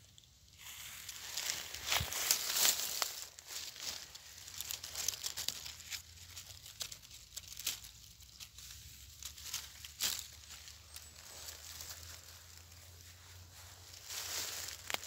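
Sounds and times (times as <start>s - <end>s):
dry leaves crunching underfoot: 0.0s - 15.0s.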